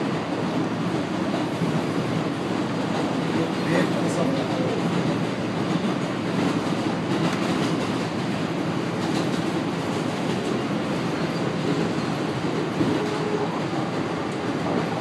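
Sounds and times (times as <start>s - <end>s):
subway train rumble and rattle: 0.0s - 15.0s.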